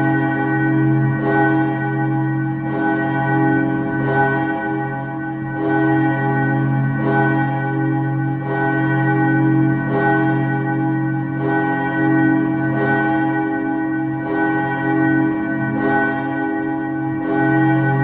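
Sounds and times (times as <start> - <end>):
church bell ringing: 0.0 - 18.0.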